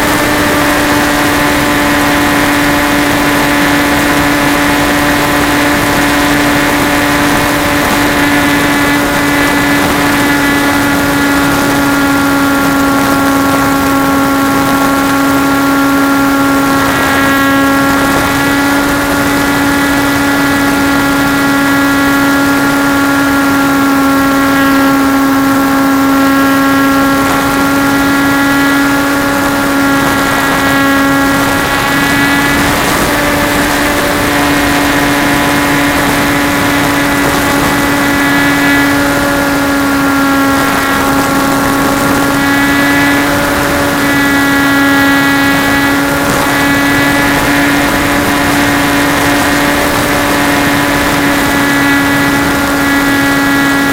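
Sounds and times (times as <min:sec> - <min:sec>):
model plane motor whine: 0:00.0 - 0:53.9.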